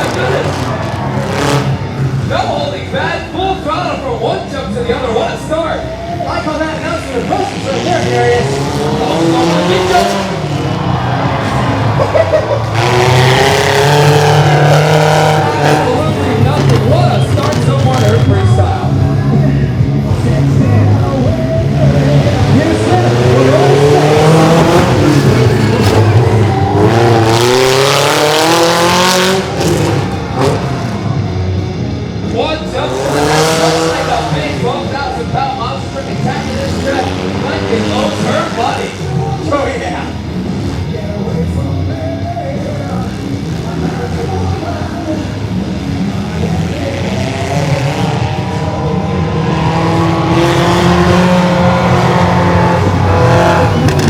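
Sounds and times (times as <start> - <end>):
small truck engine revving: 0.0 - 54.0.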